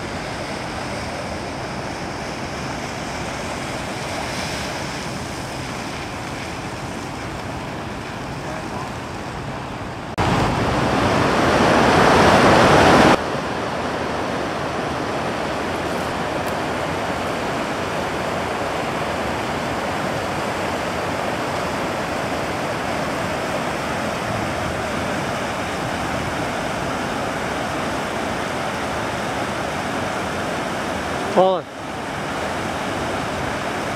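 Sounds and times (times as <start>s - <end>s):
floodwater rushing over rocks: 0.0s - 33.9s.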